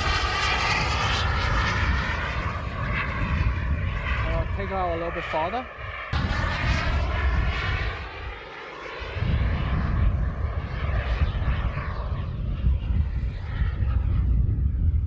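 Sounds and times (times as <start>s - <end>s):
model jet engine running: 0.0s - 15.0s.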